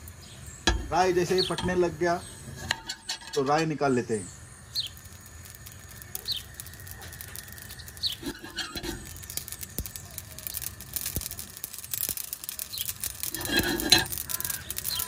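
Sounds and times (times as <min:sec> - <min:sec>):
mustard seeds crackling and popping: 0:00.0 - 0:15.0.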